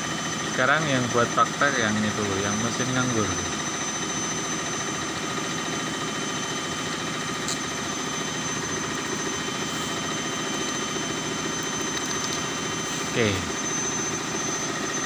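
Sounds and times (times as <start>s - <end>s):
steady mechanical drone: 0.0s - 15.0s
thin high whine: 0.0s - 15.0s.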